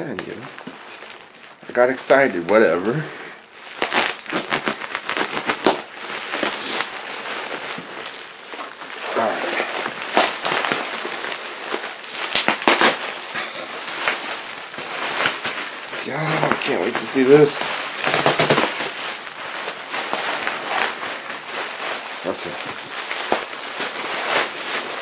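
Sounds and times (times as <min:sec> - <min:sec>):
plastic wrap crinkling: 0:00.0 - 0:25.0.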